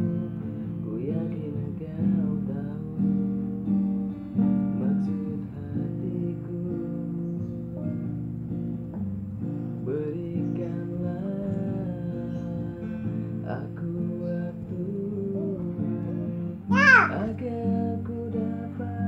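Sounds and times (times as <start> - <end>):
man singing: 0.0 - 3.8, 4.6 - 19.0
acoustic guitar strumming: 0.0 - 19.0.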